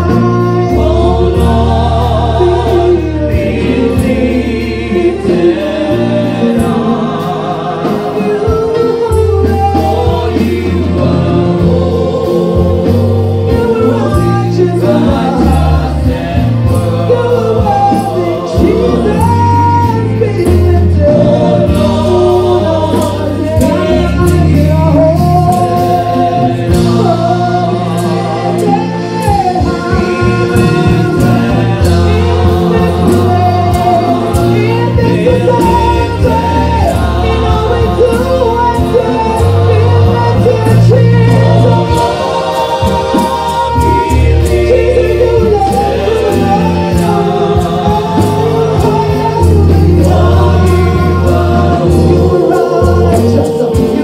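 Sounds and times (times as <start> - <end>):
instrumental accompaniment with bass: 0.0 - 54.0
voices singing gospel: 0.0 - 54.0.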